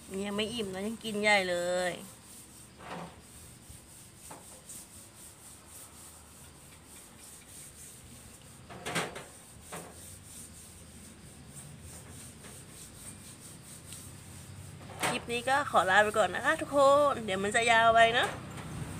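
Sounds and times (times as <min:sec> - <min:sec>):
rubbing and scraping: 0:00.0 - 0:18.9.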